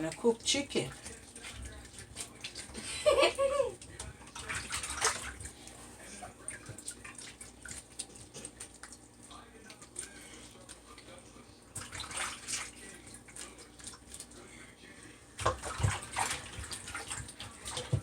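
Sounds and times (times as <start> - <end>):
water sloshing and splashing: 0.0 - 3.2, 3.8 - 14.4, 15.4 - 18.0.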